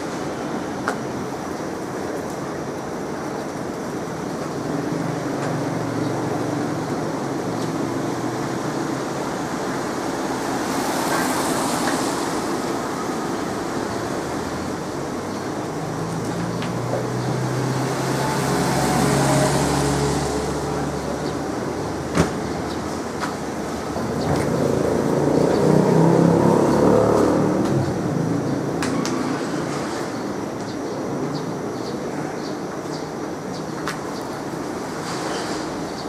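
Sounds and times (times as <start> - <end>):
vehicles driving past: 3.6 - 36.0.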